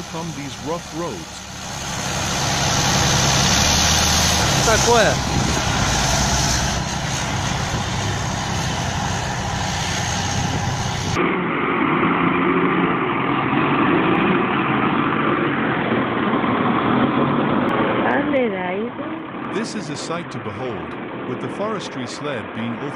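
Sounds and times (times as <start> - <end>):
heavy vehicle engines running: 0.0 - 22.9.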